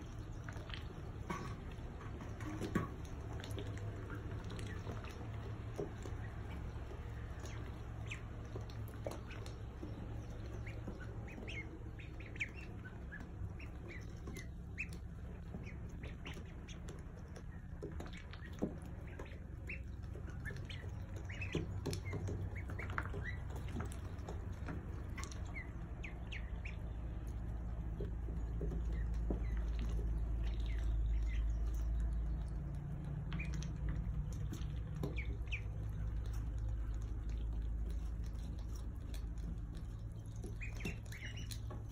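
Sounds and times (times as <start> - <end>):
ducklings peeping: 0.0 - 41.9
steady low rumble: 0.0 - 41.9.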